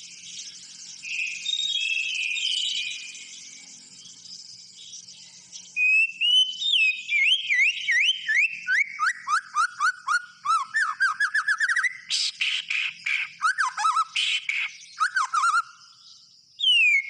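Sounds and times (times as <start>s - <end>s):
bird singing whistled notes: 0.0s - 17.0s.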